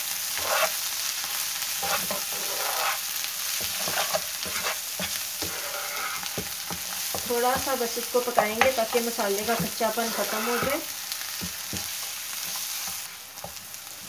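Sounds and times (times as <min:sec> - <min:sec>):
onions sizzling in hot oil: 0:00.0 - 0:14.0
spatula scraping a pan: 0:00.3 - 0:13.6.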